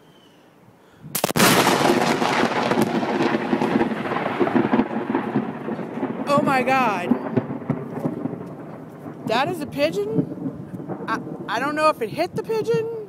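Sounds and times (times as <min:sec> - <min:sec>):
sharp thunderclap: 0:01.1 - 0:11.9
thunder crackling and rumbling: 0:01.1 - 0:13.0.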